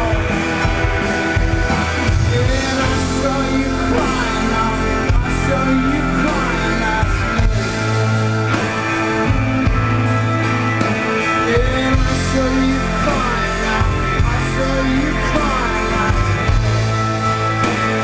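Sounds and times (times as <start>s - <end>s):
drums: 0.0s - 18.0s
electric guitar: 0.0s - 18.0s
keyboard: 0.0s - 18.0s.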